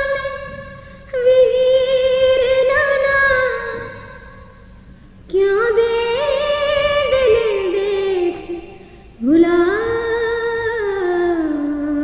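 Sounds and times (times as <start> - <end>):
woman singing a lament: 0.0 - 4.5, 5.3 - 12.0.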